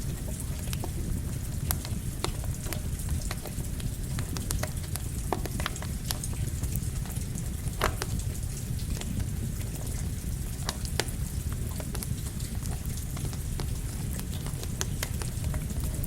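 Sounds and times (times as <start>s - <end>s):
campfire crackling and popping: 0.0s - 16.0s
rain hissing: 0.0s - 16.0s.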